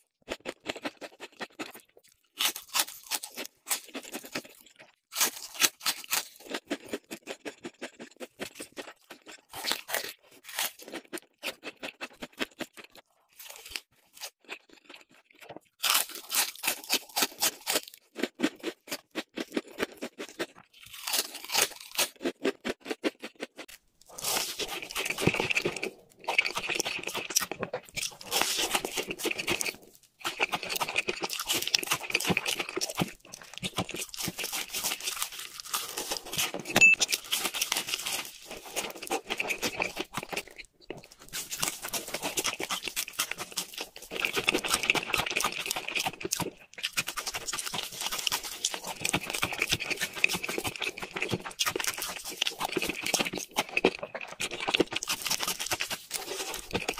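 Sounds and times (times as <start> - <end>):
crunching fried food: 0.0 - 56.9.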